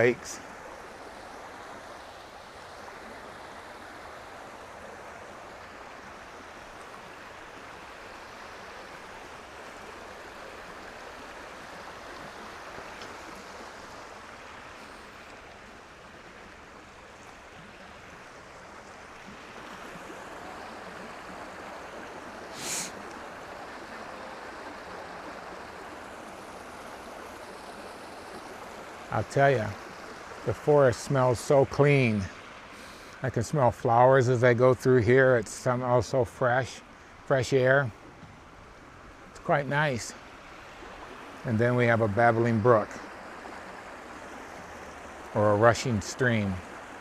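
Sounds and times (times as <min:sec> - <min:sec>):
creek water rushing over rapids: 0:00.0 - 0:47.0.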